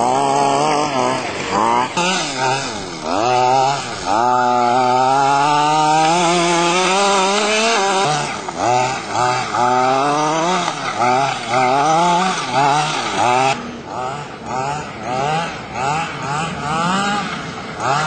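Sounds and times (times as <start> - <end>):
small two-stroke engine revving: 0.0 - 18.0.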